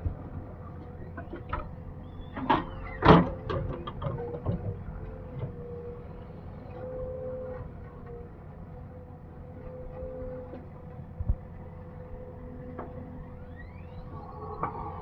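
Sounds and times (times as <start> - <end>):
backhoe engine whining: 0.0 - 15.0.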